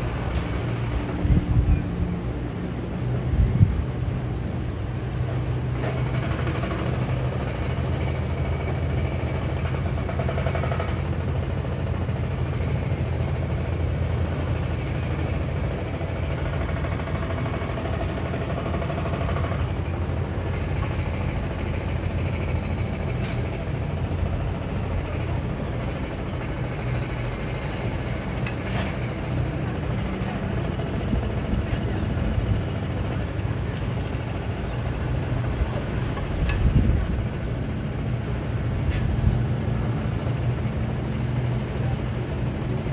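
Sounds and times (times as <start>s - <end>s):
heavy engine droning: 0.0s - 42.9s.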